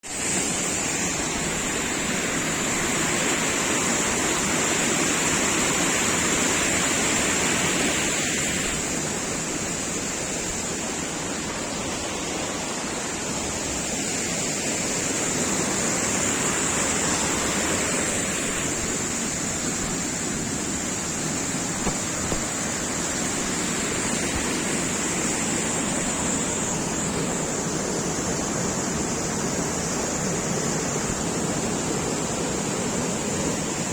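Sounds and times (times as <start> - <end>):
small waterfall rushing: 0.0 - 33.9.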